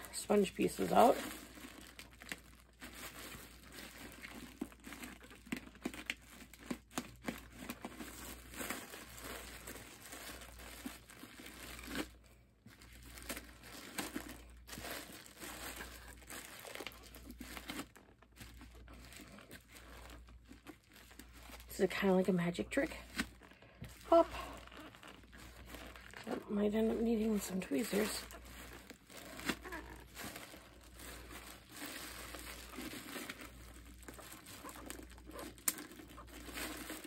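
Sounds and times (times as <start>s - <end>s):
plastic bag crinkling: 0.0s - 37.0s.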